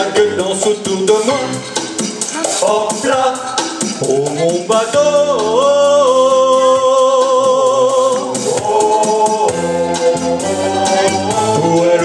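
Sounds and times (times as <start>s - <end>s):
man singing into a microphone: 0.0s - 1.6s, 2.3s - 10.4s, 11.3s - 12.0s
pop backing track: 0.0s - 12.0s.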